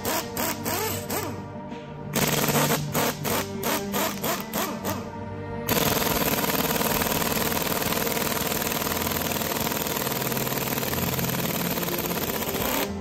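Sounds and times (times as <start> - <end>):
impact wrench hammering: 0.0 - 1.4, 2.2 - 5.0, 5.7 - 13.0.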